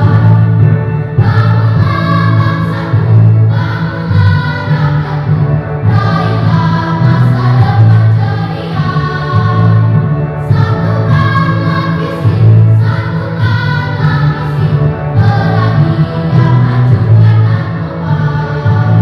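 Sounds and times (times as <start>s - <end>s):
children's choir singing: 0.0s - 19.0s.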